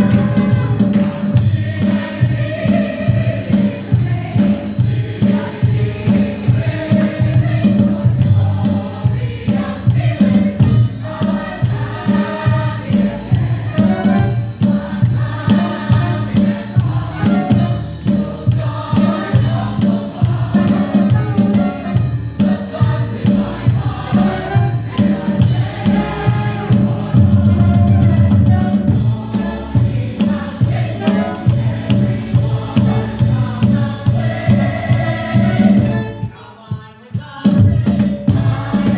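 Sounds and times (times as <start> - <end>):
group of voices singing: 0.0 - 38.9
music with steady beat: 0.0 - 38.9.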